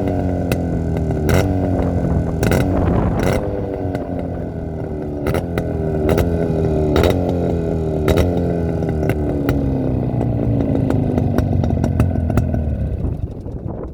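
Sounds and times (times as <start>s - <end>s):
motorcycle engine revs dropping: 0.0s - 13.9s.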